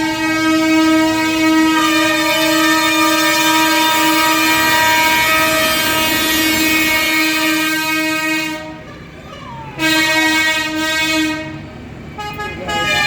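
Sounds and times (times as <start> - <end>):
loud air horn blast: 0.0 - 9.1, 9.7 - 13.0.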